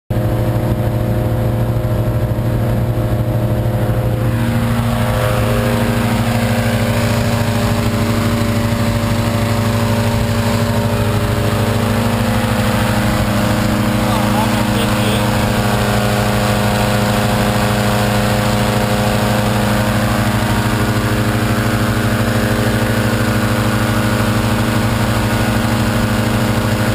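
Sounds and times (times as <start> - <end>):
engine fan running: 0.1 - 26.9
propane burner rushing: 0.7 - 26.9.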